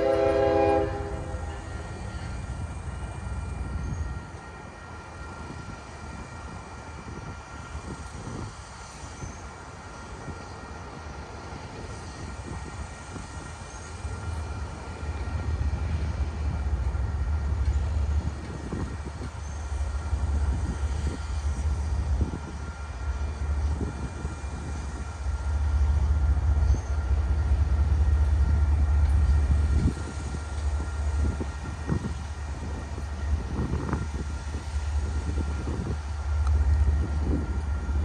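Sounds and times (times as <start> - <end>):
freight train rumble: 0.0 - 38.0.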